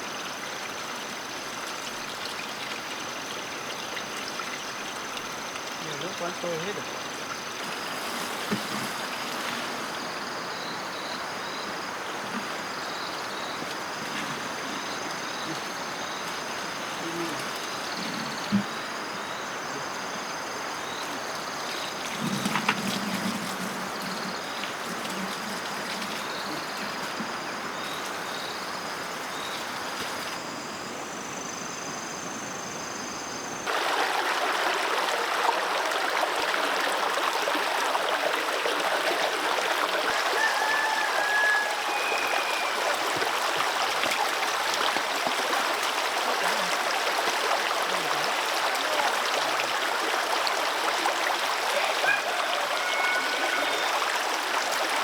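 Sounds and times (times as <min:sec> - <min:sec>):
running water rushing: 0:00.0 - 0:30.5, 0:33.6 - 0:55.0.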